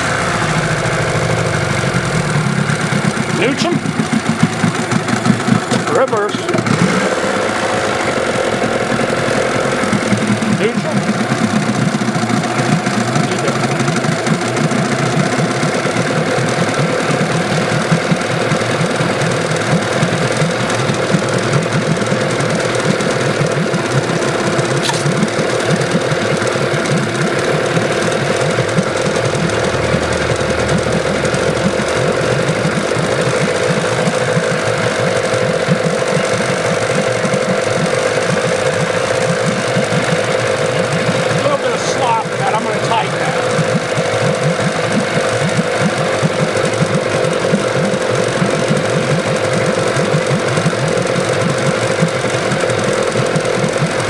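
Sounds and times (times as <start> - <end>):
outboard motor idling: 0.0 - 54.0.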